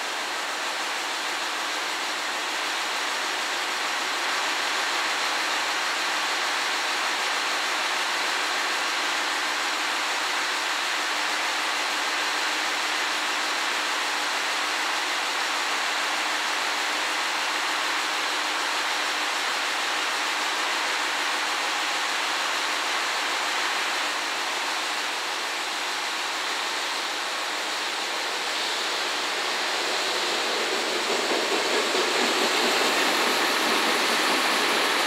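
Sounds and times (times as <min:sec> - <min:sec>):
train wheels rushing on rails: 0:00.0 - 0:35.0.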